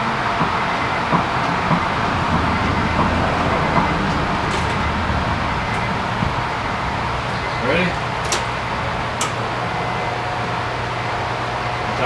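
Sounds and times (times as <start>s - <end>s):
car engine running: 0.3s - 12.0s.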